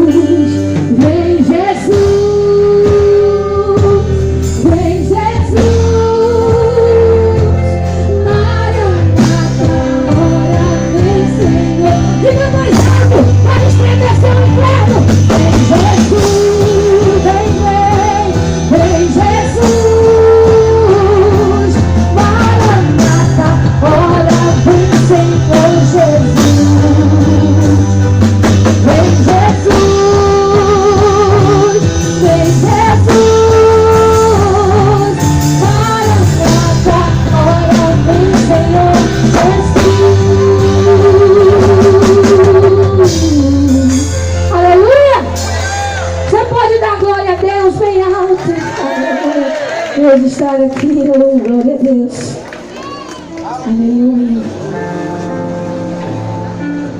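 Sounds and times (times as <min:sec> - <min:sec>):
gospel band music: 0:00.0 - 0:56.9.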